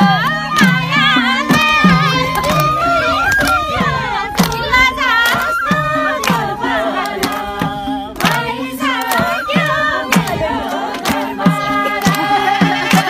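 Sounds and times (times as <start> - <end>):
drum beating steady rhythm: 0.0 - 13.0
voices singing: 0.0 - 13.0
sharp hand claps: 1.5 - 13.0.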